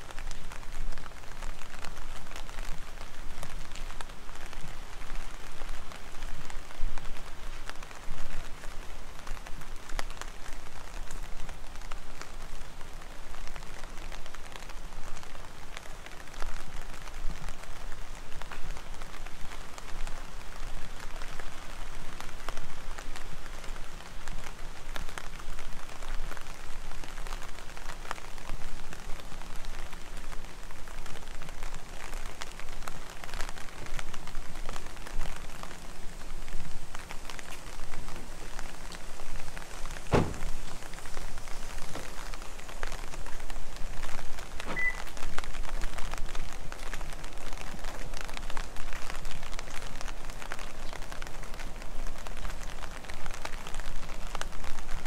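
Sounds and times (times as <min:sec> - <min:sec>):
heavy rain hiss: 0:00.0 - 0:55.0
raindrops hitting close: 0:00.0 - 0:55.0.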